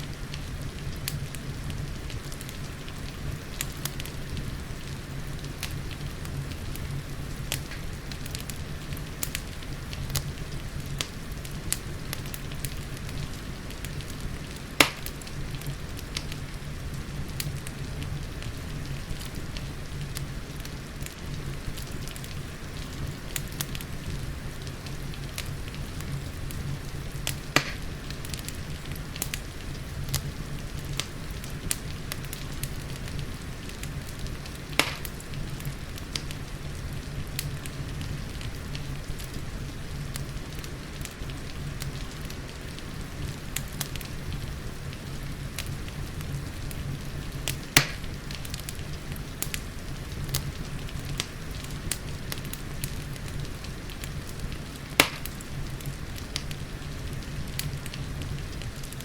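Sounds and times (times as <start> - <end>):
soft rain: 0.0 - 59.0
wood fire crackling: 0.0 - 59.0.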